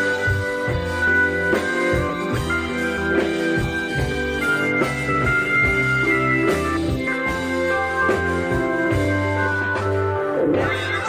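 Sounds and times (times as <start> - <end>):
bass: 0.0 - 11.0
held guitar notes: 0.0 - 11.0
rock music: 0.0 - 11.0
steady drum beat: 0.0 - 11.0.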